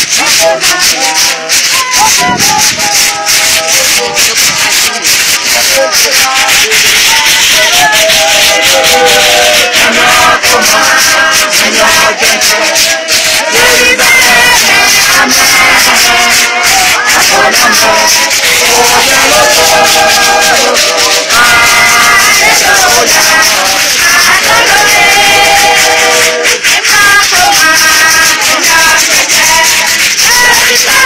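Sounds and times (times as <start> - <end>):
crowd singing together: 0.0 - 31.0
steady shaking rhythm: 0.0 - 31.0.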